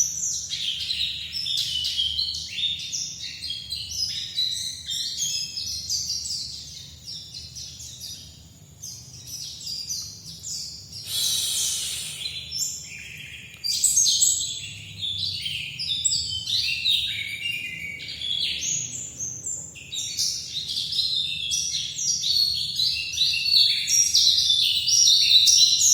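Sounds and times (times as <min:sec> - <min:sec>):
bird twittering song: 0:00.0 - 0:25.9.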